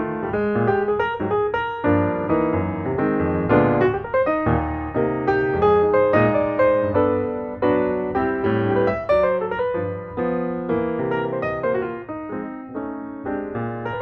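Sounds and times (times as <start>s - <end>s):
solo piano playing: 0.0s - 14.0s.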